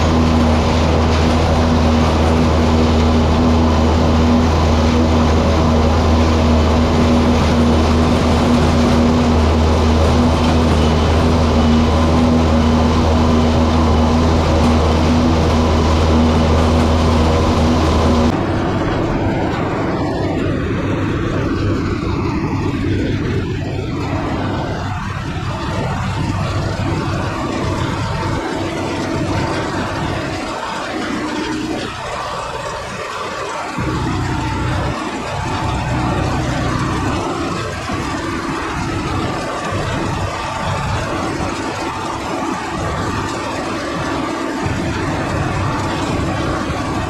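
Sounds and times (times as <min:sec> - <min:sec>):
engines running with low hum: 0:00.0 - 0:47.0.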